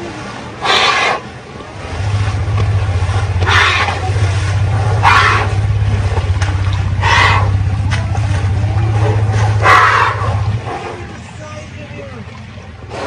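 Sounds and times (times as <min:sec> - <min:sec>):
elephant rumbling: 0:00.0 - 0:11.4.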